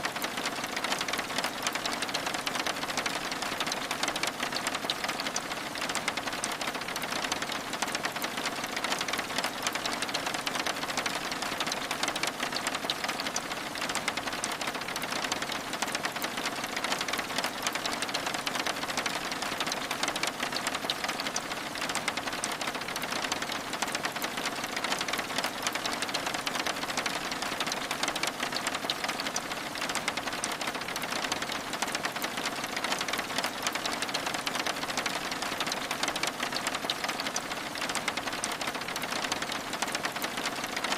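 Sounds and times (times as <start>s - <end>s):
rain on window glass: 0.0s - 40.9s.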